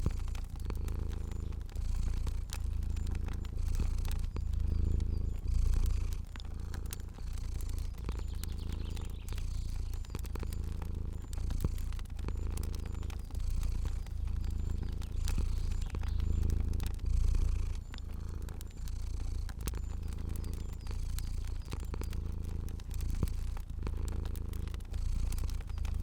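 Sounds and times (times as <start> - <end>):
cat purring: 0.0 - 26.0
fire crackling: 0.0 - 26.0.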